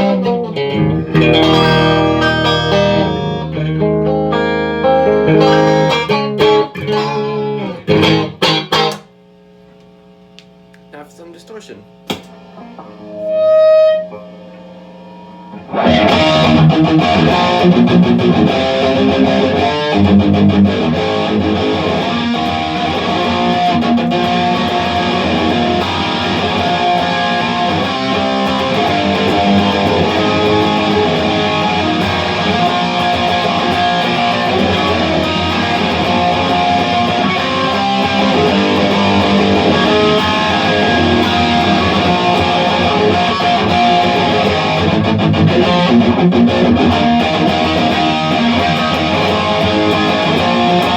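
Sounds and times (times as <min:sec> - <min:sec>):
distorted electric guitar: 0:00.0 - 0:09.2, 0:11.9 - 0:50.9.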